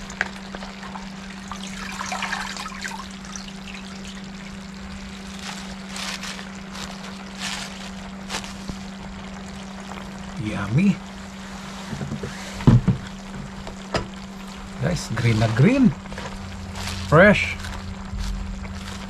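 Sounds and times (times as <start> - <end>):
leaves rustling and crackling: 0.0 - 19.0
steady low hum: 0.0 - 19.0
stew bubbling in a pot: 0.0 - 19.0.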